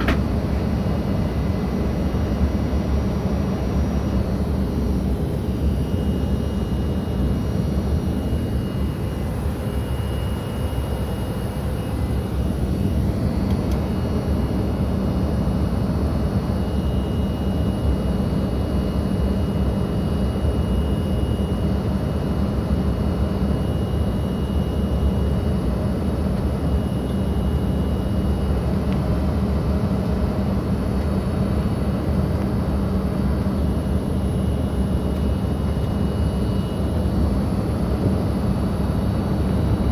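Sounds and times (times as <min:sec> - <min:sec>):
jet cabin engine and airflow noise: 0:00.0 - 0:39.9.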